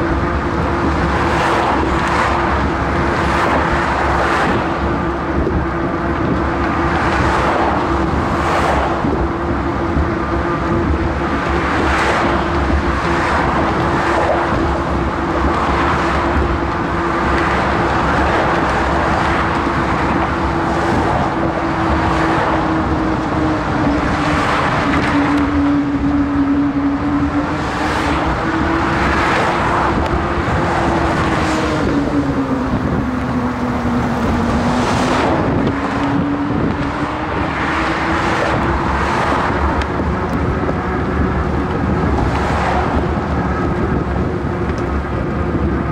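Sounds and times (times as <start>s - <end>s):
cars rushing past: 0.0s - 45.9s
continuous road noise: 0.0s - 45.9s.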